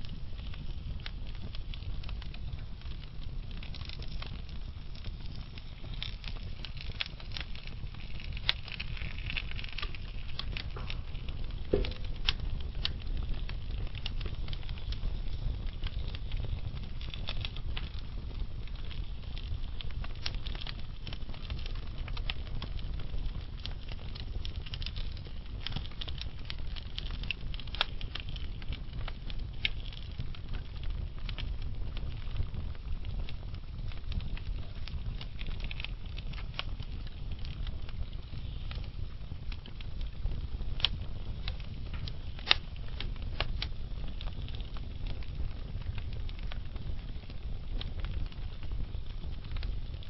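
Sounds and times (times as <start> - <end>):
logs crackling and popping: 0.0 - 50.0
low rumble of flames: 0.0 - 50.0.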